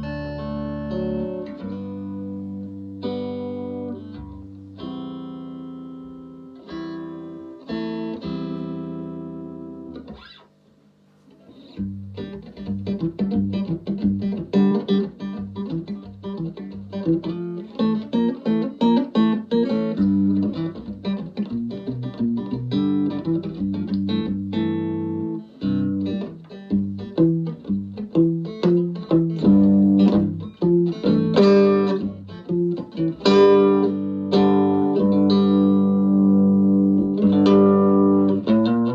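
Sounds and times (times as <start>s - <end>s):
electric guitar chords and picking: 0.0s - 10.5s, 11.5s - 38.9s.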